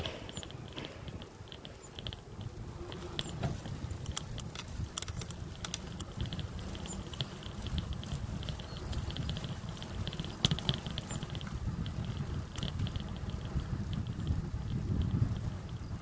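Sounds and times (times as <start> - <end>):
bicycle clicks and rattles: 0.0 - 16.0
fast light ticking: 0.0 - 16.0
wind and tyres rumbling: 0.0 - 16.0.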